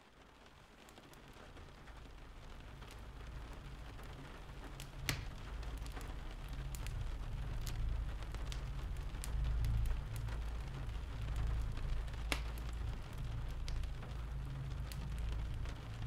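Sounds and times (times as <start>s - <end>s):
steady rain: 0.0s - 16.0s
wood fire crackling: 0.1s - 16.0s.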